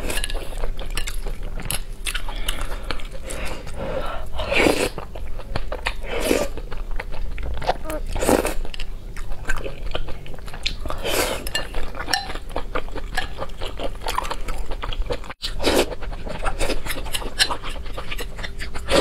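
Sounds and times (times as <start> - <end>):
close chewing of noodles: 0.0 - 19.0.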